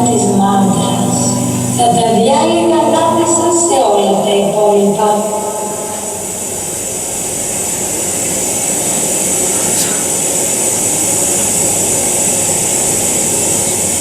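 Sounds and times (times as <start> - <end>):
steady rushing drone: 0.0 - 14.0.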